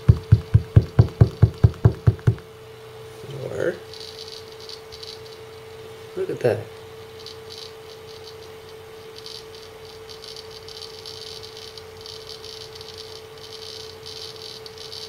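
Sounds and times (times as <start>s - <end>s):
hard drive seek clicking: 0.0s - 2.5s, 3.7s - 5.8s, 6.4s - 15.0s
hard drive hum: 0.0s - 15.0s.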